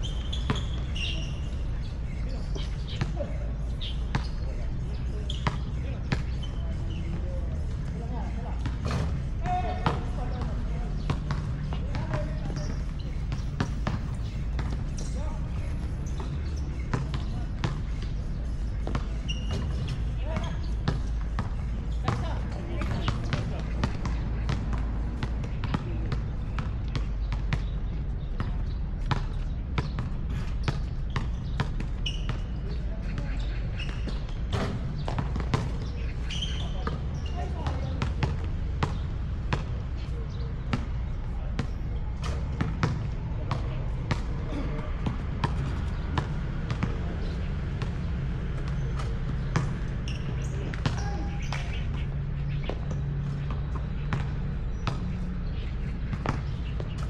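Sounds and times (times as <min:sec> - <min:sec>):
basketball bouncing on hard court: 0:05.3 - 0:57.0.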